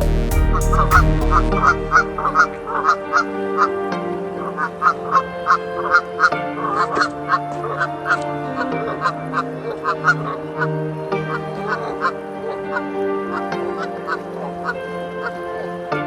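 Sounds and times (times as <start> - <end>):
sustained background notes: 0.0 - 16.0.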